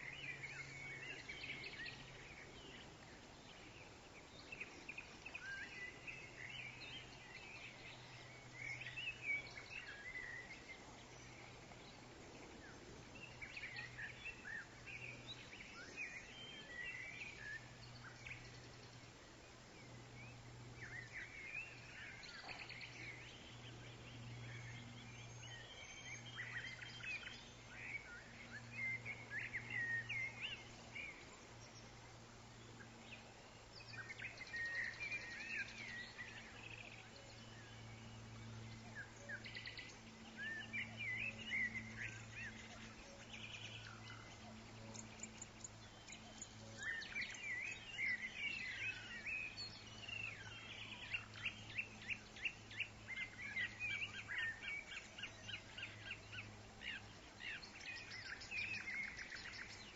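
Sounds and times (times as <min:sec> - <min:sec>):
faint low rumble: 0:00.0 - 0:59.9
small birds chirping and twittering: 0:00.0 - 0:59.9.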